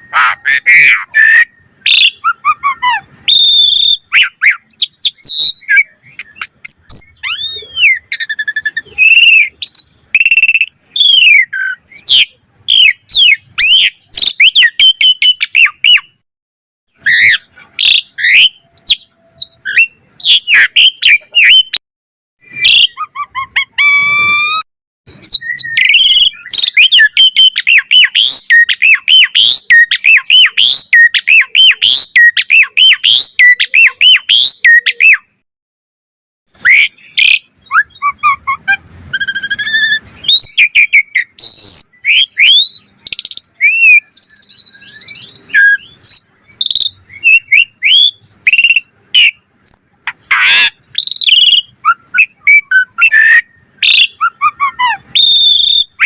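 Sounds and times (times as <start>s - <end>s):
starling singing whistles and trills: 0.0s - 16.2s, 16.9s - 21.8s, 22.4s - 35.4s, 36.6s - 56.0s.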